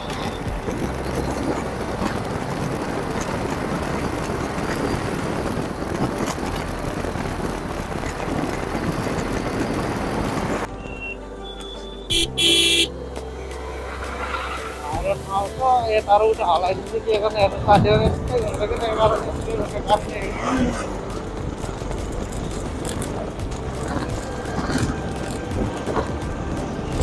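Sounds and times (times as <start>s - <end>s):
engine hum: 0.0s - 27.0s
wind rush and road noise: 0.0s - 27.0s.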